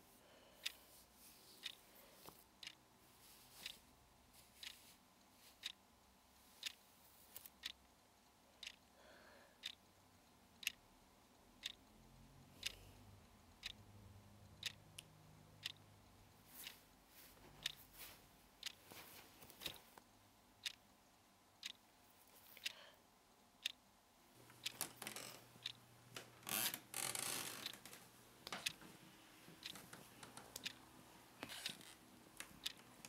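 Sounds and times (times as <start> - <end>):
clock ticking: 0.6 - 22.0, 22.6 - 26.3, 27.0 - 33.0.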